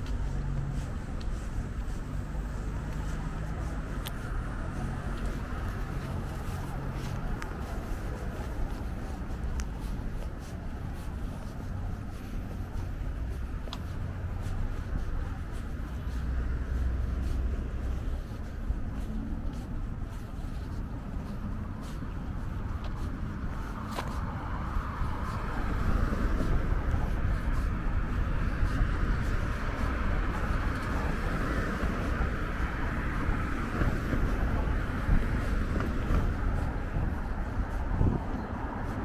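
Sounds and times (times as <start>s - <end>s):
passing cars with tyre hiss: 0.0s - 39.0s.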